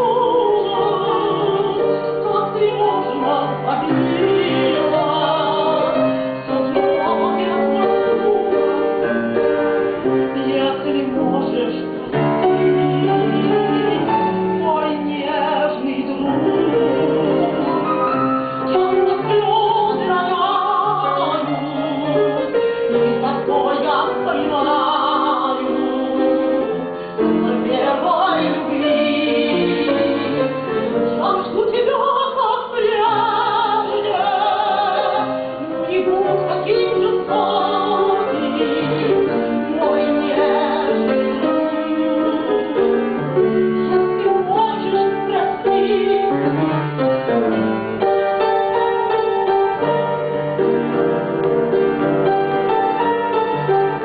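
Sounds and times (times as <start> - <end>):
piano accompaniment: 0.0 - 54.0
woman singing operatic tango: 0.0 - 54.0.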